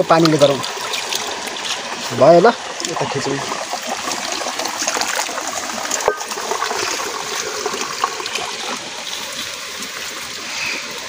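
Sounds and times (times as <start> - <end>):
water trickling over rock: 0.0 - 11.0.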